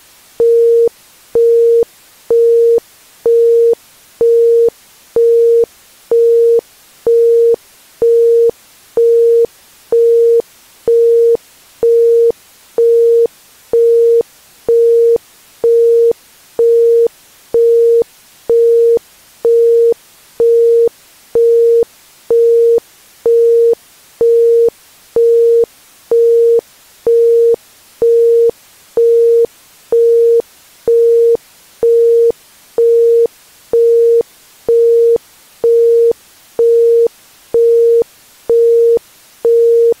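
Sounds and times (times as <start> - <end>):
faint steady hiss: 0.0 - 40.0.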